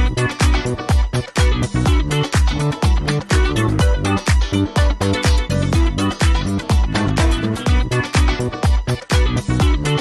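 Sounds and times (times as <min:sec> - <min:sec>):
dance music with kick drum: 0:00.0 - 0:10.0.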